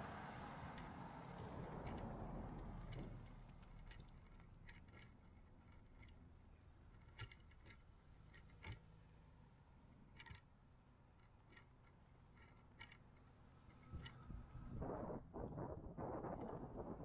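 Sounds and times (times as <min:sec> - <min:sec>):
faint clicks and ticks: 0:01.7 - 0:17.0.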